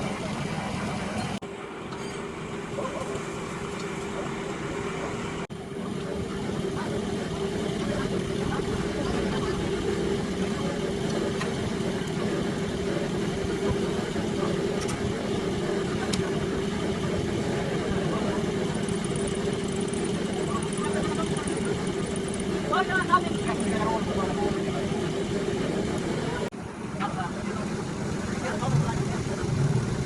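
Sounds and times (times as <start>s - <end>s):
machine motor humming: 0.0s - 26.5s.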